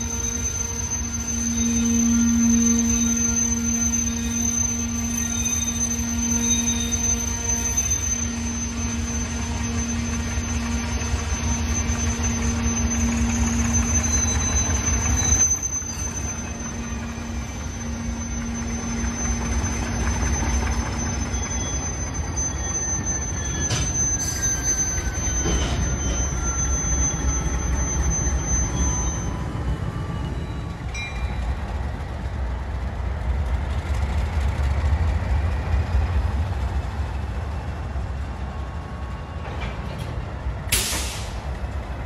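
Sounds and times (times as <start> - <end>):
diesel locomotive engines rumbling: 0.0 - 42.0
steel wheels squealing: 0.0 - 42.0.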